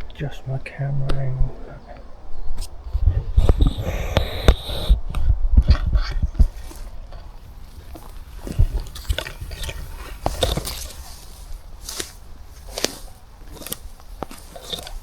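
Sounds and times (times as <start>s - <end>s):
low rumble: 0.0s - 12.6s
footsteps crunching and squelching: 2.6s - 15.0s.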